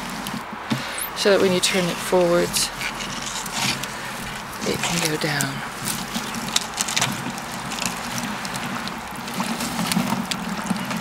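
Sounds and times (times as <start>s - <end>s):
slurry sloshing and gurgling: 0.0s - 11.0s.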